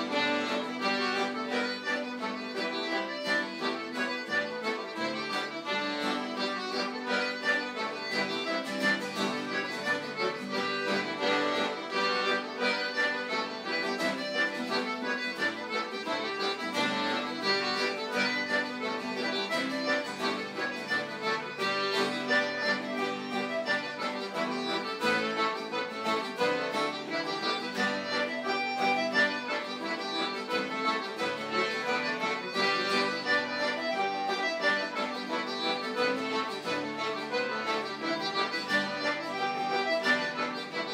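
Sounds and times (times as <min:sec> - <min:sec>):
accordion: 0:00.0 - 0:40.9
traditional dance music: 0:00.0 - 0:40.9.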